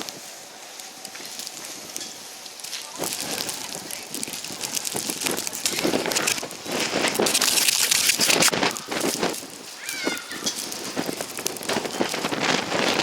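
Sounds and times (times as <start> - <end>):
snow ticking on microphone: 0.0 - 13.0
wind buffeting microphone: 0.9 - 13.0.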